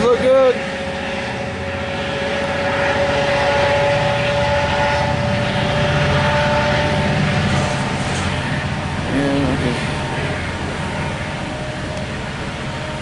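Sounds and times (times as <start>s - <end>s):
diesel locomotive engine throbbing: 0.0s - 13.0s.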